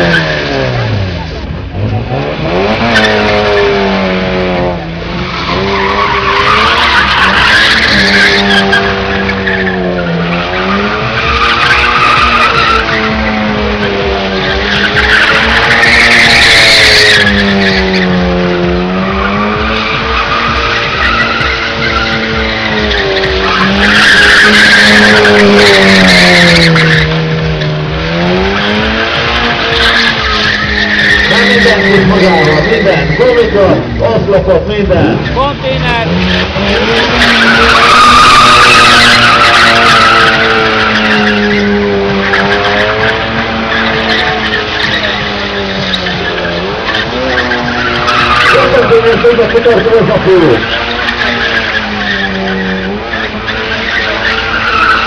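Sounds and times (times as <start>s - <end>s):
car engine at high revs: 0.0s - 55.0s
tyres squealing on concrete: 0.0s - 55.0s.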